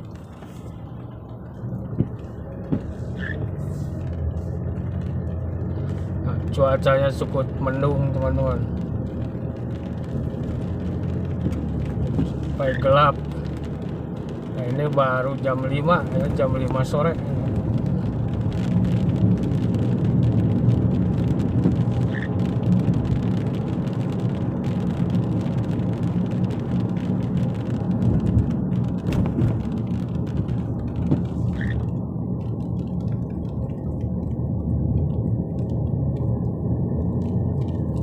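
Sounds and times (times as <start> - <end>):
car interior rumble: 0.0 - 38.0
rain on car: 0.0 - 38.0.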